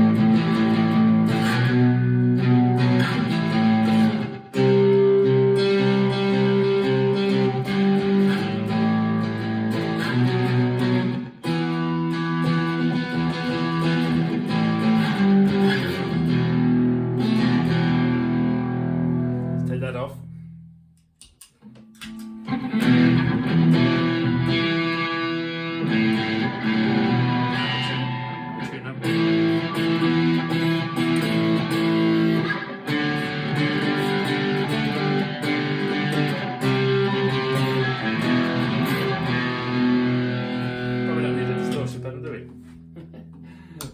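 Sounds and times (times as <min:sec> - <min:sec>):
electric guitar chords strummed: 0:00.0 - 0:20.1, 0:21.8 - 0:43.6.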